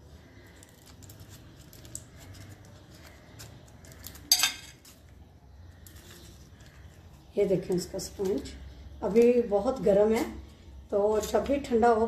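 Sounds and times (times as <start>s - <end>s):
paper liner crinkling: 0.2s - 9.9s.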